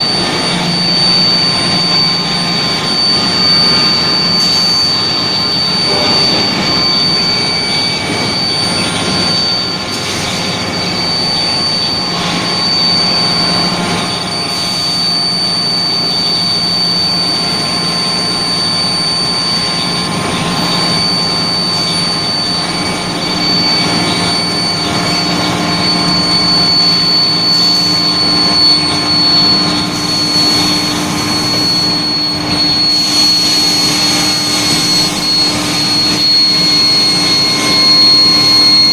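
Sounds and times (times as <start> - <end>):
high-pitched industrial whine: 0.0 - 38.9.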